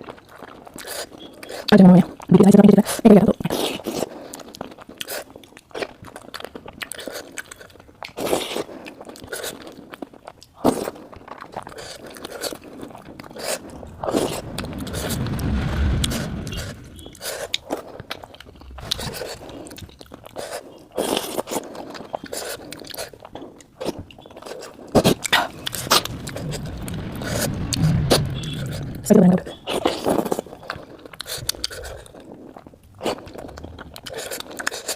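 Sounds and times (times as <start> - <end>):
chewing and biting food: 0.0 - 14.4, 17.1 - 26.4, 29.7 - 34.9.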